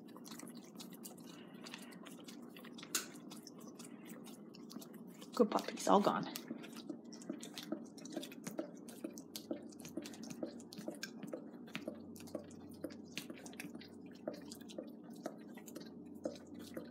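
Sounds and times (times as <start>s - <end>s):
dogs licking and lip smacking: 0.0s - 16.9s.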